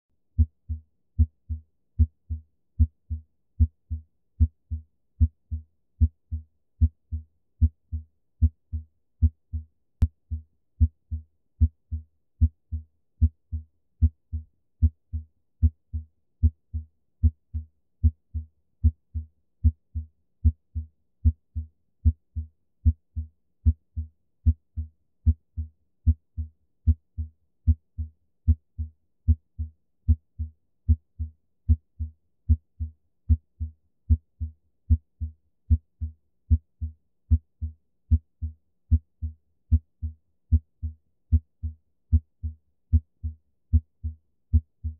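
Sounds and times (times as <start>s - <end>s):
heartbeat through stethoscope: 0.4s - 4.6s, 5.2s - 10.2s, 10.8s - 20.6s, 21.2s - 23.0s, 23.6s - 31.0s, 31.7s - 41.4s, 42.1s - 44.9s.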